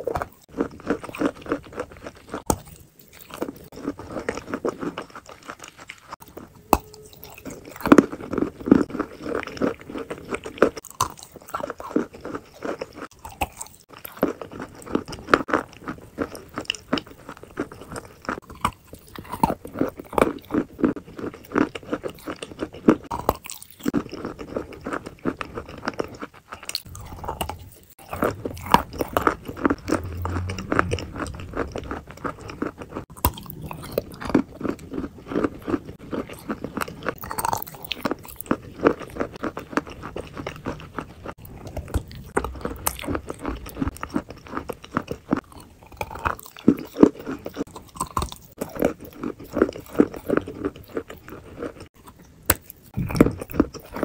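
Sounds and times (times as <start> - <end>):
person chewing with wet clicks: 0.0 - 54.0.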